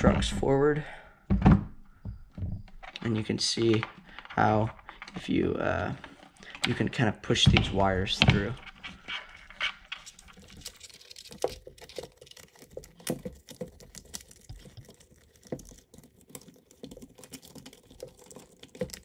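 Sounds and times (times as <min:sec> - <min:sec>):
hands handling wires and connectors: 0:02.1 - 0:19.0.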